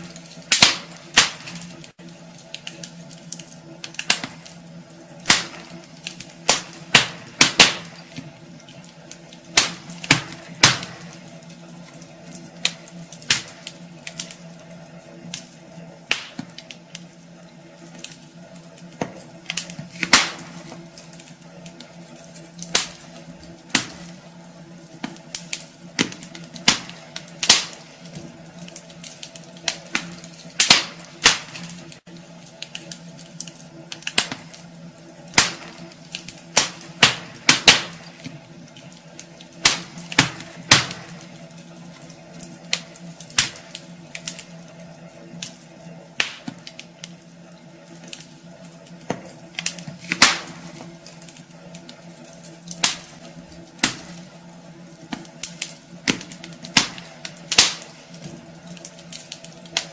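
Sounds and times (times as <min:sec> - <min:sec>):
faint steady hum: 0:00.0 - 0:59.9
wood fire crackling: 0:00.0 - 0:59.9.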